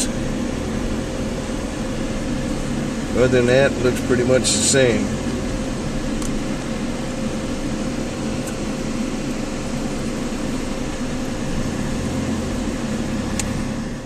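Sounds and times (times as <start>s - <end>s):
car interior driving hum: 0.0s - 14.0s.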